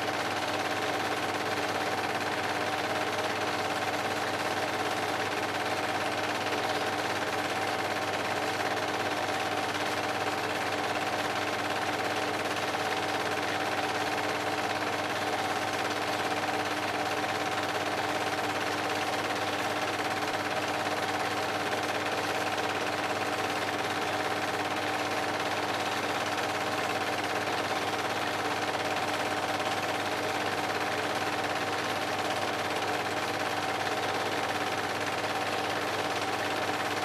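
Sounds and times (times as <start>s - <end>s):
film projector clattering: 0.0s - 37.0s.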